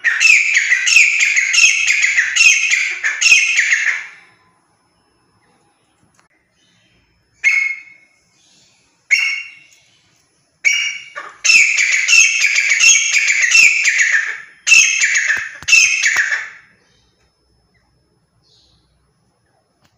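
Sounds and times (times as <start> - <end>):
francolin calling: 0.0 - 19.8.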